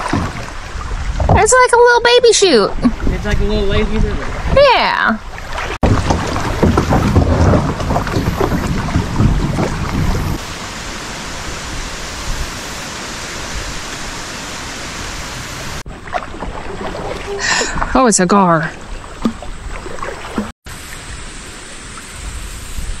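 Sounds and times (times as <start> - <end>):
wind rumbling on microphone: 0.0 - 23.0
water rushing over riffle: 3.8 - 22.4.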